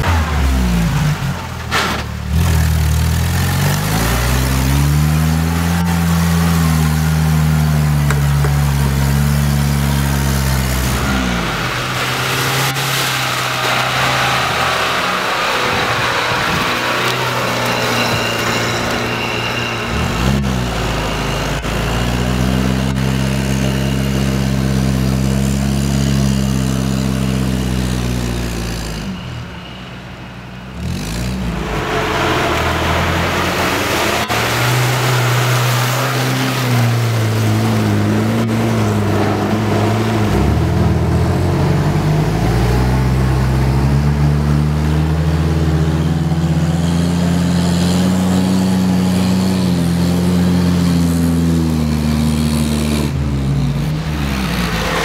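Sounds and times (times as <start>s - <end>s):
off-road engines revving in mud: 0.0s - 55.0s.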